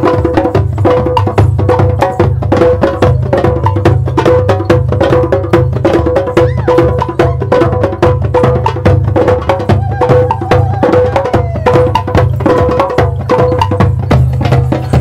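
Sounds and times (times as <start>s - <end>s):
fast percussion strikes: 0.0s - 15.0s.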